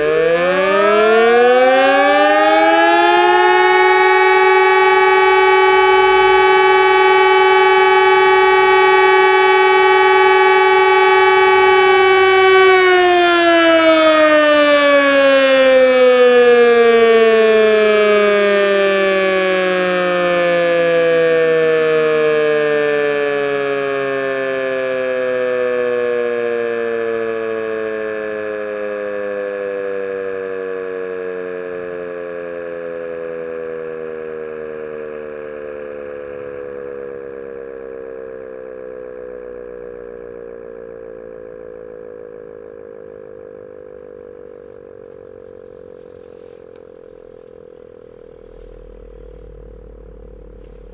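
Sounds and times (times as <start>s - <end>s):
motor siren spinning down: 0.0s - 50.9s.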